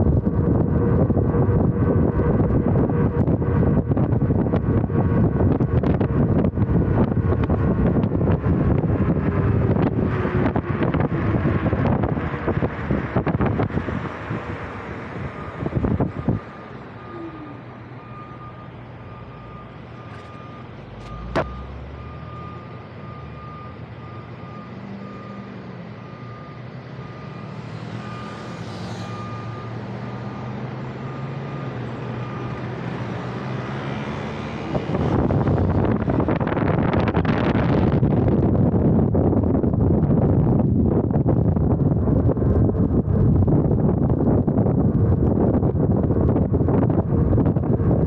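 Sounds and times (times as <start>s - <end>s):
wind noise on microphone: 0.0s - 48.0s.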